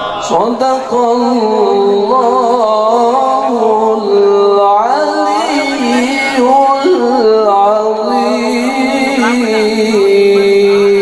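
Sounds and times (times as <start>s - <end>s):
man chanting recitation: 0.2s - 11.0s.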